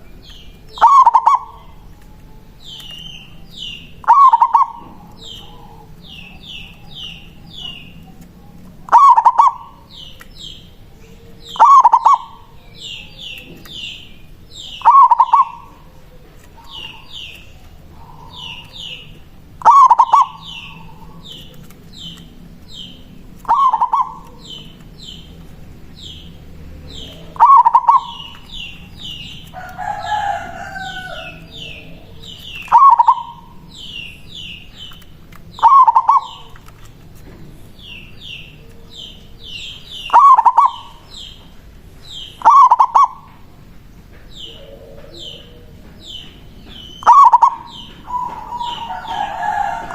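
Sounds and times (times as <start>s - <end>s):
small bird high chirps: 0.0s - 36.9s, 37.6s - 43.4s, 44.3s - 49.9s
dove cooing: 0.7s - 10.6s, 11.2s - 25.3s, 26.0s - 36.7s, 37.8s - 41.4s, 42.1s - 43.5s, 44.3s - 49.9s.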